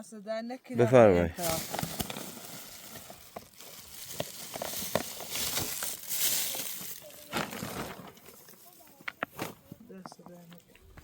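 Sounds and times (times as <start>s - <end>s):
rustling and crunching: 1.4s - 11.0s.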